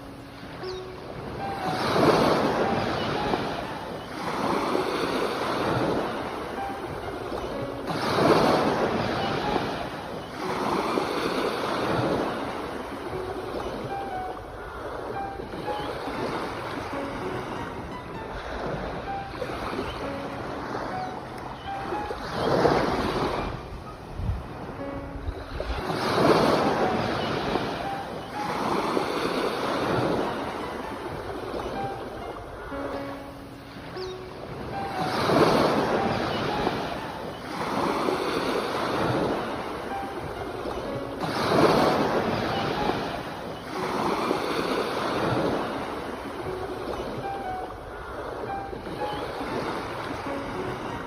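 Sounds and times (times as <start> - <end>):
sea waves washing in: 0.0 - 51.0.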